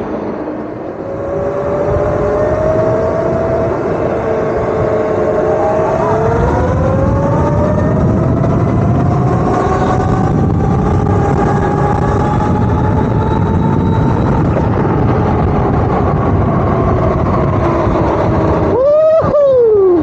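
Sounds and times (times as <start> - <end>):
electric motor whine: 0.0 - 18.8
road noise: 0.0 - 20.0
wind rush: 0.0 - 20.0.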